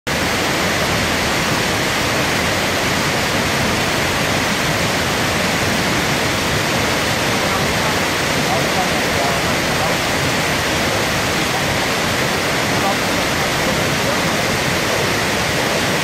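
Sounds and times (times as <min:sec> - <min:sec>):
waterfall rushing: 0:00.1 - 0:16.0.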